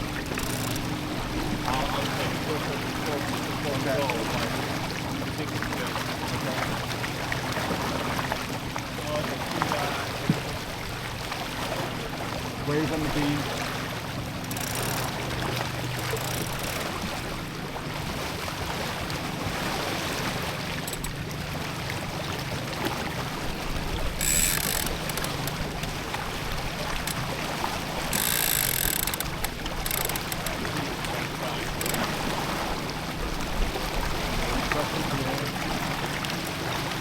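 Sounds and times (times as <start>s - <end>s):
water rushing along a boat hull: 0.0s - 37.0s
wind over open water: 0.0s - 37.0s.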